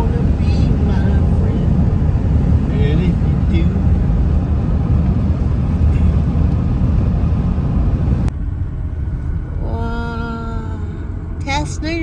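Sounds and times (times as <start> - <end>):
car road noise rumble: 0.0 - 12.0.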